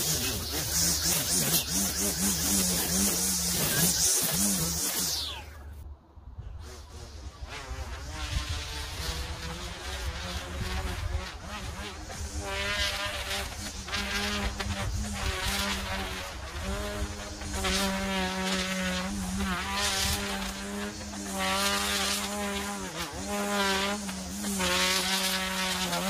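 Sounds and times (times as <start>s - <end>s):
string trimmer running: 0.0s - 5.8s, 6.4s - 26.0s.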